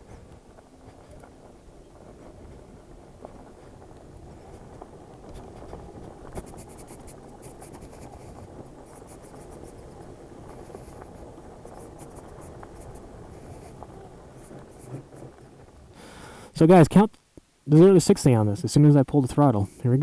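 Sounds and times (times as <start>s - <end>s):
road rumble: 0.0s - 17.4s
low wind: 0.0s - 20.0s.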